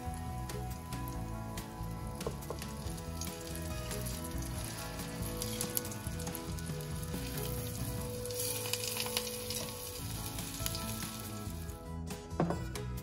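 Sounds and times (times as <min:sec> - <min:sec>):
eggplant sizzling in frying oil: 0:00.0 - 0:11.8
quiet background music: 0:00.0 - 0:13.0.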